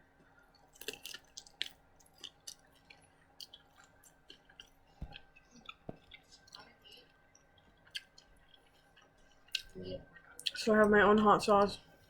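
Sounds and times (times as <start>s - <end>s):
chewing and mouth smacking: 0.5s - 10.6s.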